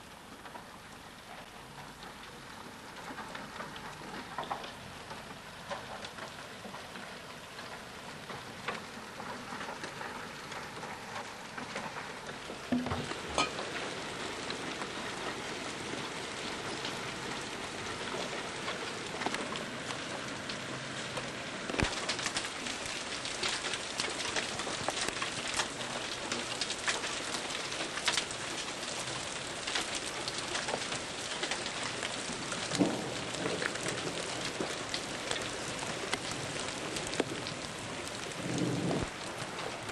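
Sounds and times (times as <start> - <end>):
hailstones striking hard surfaces: 1.7 - 39.9
heavy rain hiss: 7.9 - 39.9.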